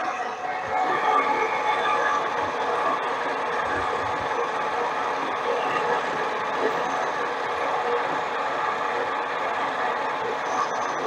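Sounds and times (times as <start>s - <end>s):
lathe motor and gears whining: 0.0s - 11.0s.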